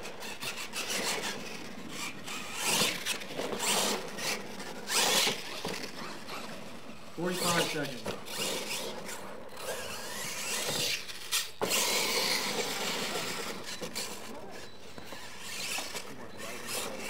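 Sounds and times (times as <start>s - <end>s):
toy truck motor revving: 0.0s - 17.0s.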